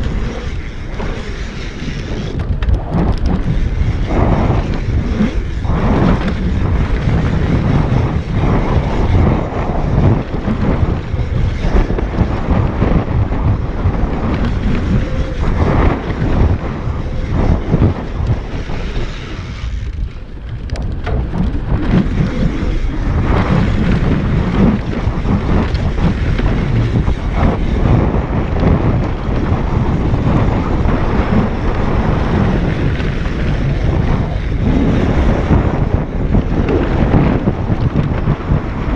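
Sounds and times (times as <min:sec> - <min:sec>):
bike rattling over bumps: 0:00.0 - 0:38.9
tyres rumbling on dirt: 0:00.0 - 0:38.9
wind buffeting microphone: 0:00.0 - 0:38.9.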